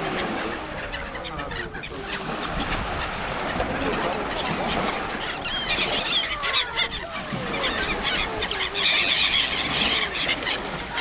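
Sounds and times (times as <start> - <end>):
flock of birds calling: 0.0 - 11.0
sea noise: 0.0 - 11.0.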